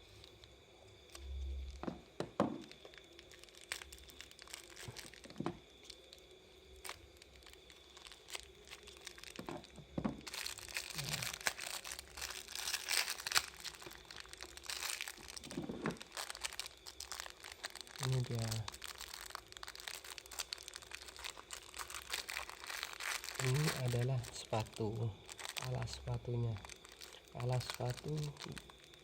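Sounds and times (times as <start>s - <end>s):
packaging crinkling and tearing: 2.5s - 29.0s.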